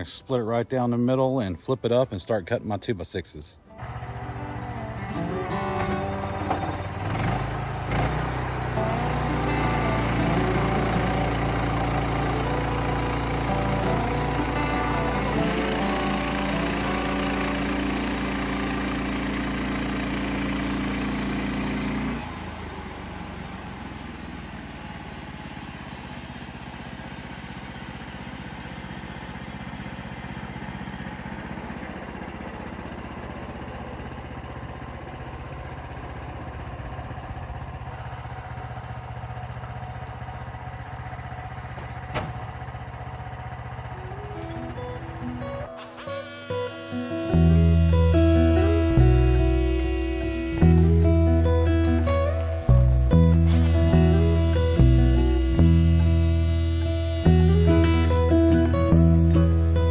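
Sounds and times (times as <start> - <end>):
sawmill gas engine running: 3.7 - 59.9.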